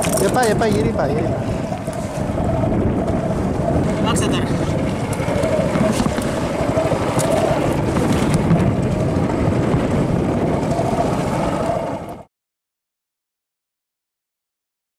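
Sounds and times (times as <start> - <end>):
outboard motor running: 0.0 - 12.3
water rushing along hull: 0.0 - 12.3
wind: 0.0 - 12.3.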